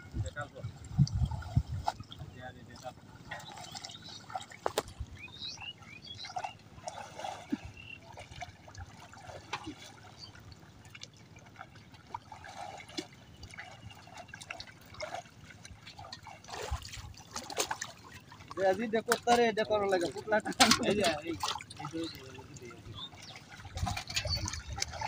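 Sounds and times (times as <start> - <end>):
splashes of wading in water: 0.0 - 25.0
water trickling and dripping: 0.0 - 25.0.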